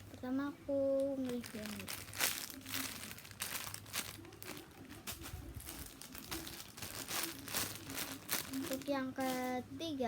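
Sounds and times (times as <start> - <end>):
plastic packaging crinkling: 0.8 - 9.6.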